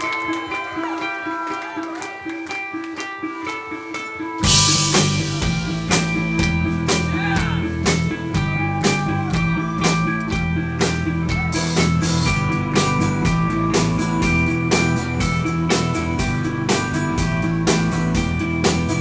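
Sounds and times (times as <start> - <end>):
drum kit beat: 0.0 - 19.0.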